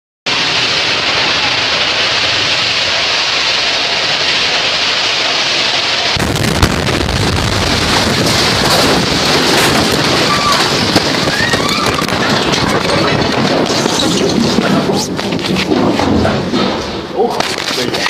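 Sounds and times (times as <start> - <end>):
fire crackling pops: 0.3 - 18.0
fire rushing hiss: 0.3 - 18.0.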